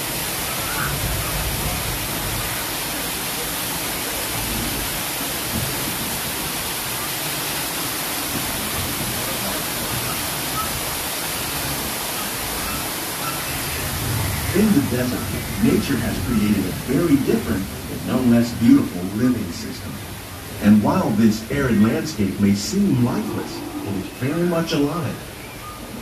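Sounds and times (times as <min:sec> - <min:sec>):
falling water hissing: 0:00.0 - 0:26.0.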